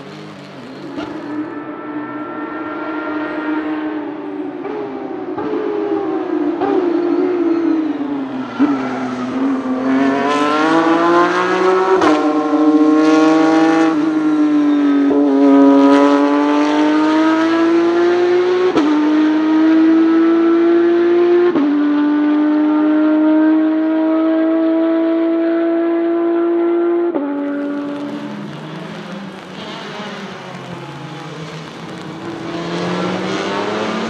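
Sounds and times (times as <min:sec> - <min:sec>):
race car engine accelerating: 0:00.0 - 0:34.0.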